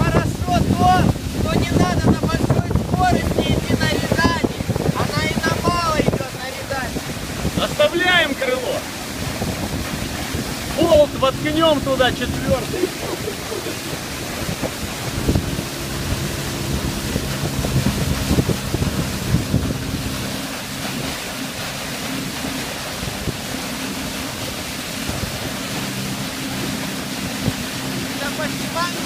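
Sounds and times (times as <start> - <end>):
outboard motor running: 0.0 - 29.0
water rushing past hull: 0.0 - 29.0
wind buffeting microphone: 0.0 - 29.0.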